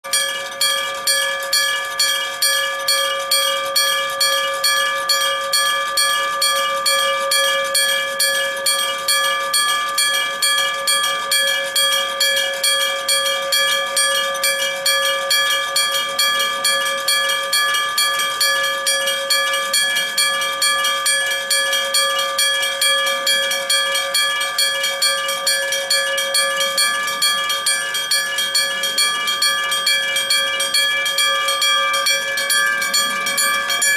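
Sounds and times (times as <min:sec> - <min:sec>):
railway crossing bell ringing: 0:00.0 - 0:33.9.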